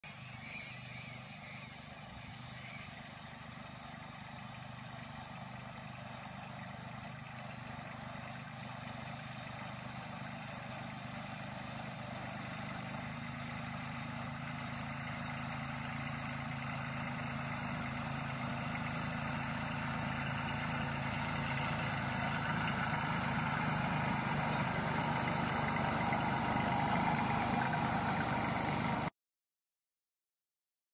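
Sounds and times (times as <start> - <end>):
crop sprayer engine running: 0.0 - 29.1.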